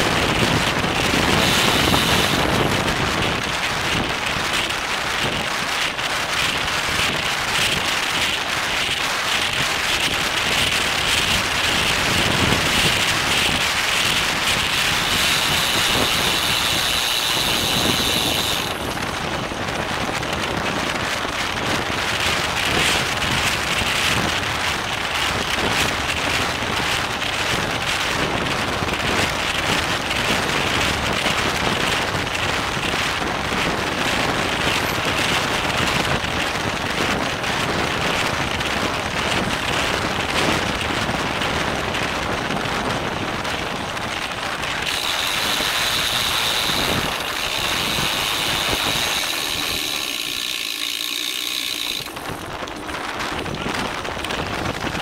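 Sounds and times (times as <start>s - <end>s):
bicycle freewheel ratchet clicking: 0.0s - 41.9s, 43.5s - 55.0s
wind rushing over microphone: 0.0s - 55.0s.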